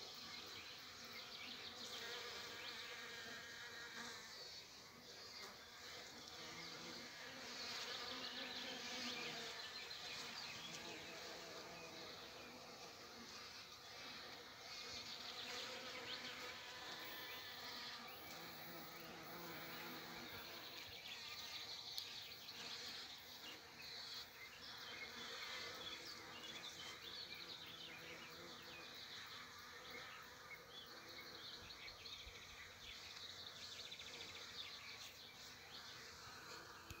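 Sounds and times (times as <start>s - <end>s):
bees buzzing: 0.1s - 37.0s.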